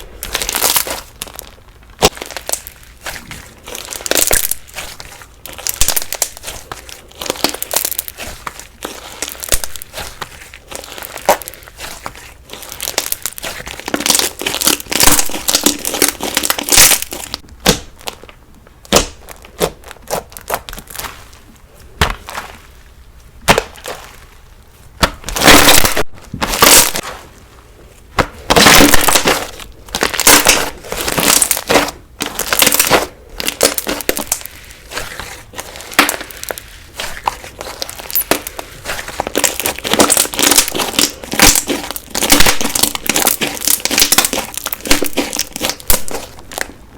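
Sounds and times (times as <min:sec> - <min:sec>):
crunchy slime crackling and popping: 0:00.0 - 0:27.4, 0:28.0 - 0:46.9.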